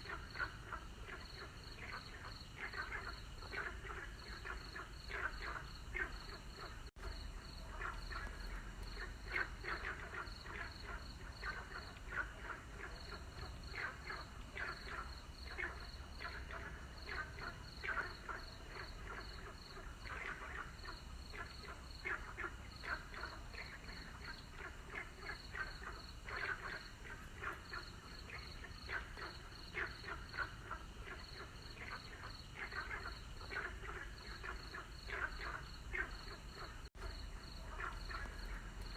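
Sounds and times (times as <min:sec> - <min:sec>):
frogs croaking: 0:00.0 - 0:38.9.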